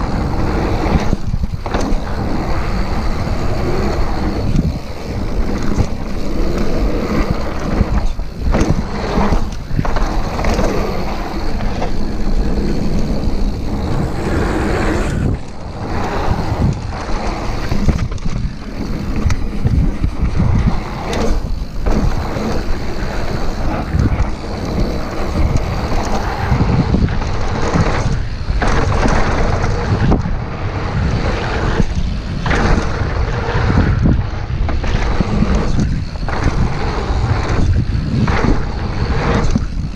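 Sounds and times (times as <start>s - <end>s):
bike rattling: 0.0s - 39.9s
bike tyres crunching over dirt: 0.0s - 39.9s
wind buffeting microphone: 0.0s - 39.9s.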